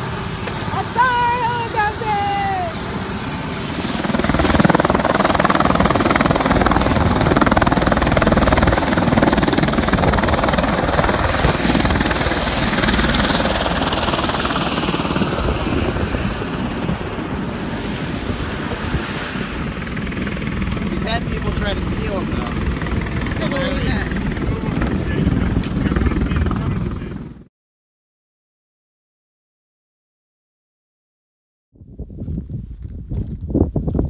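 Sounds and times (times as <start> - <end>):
high turbine whine: 0.0 - 27.4
helicopter rotor and engine: 0.0 - 27.5.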